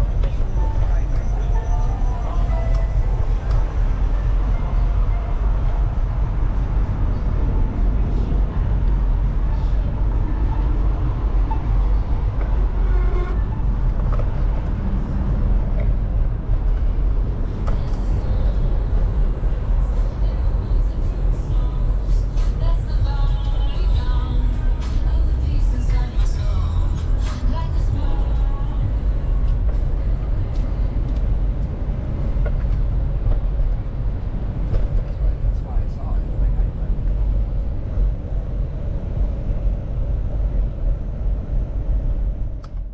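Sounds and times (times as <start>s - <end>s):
city traffic noise: 0.0s - 42.9s
wind rumble on microphone: 0.0s - 42.9s.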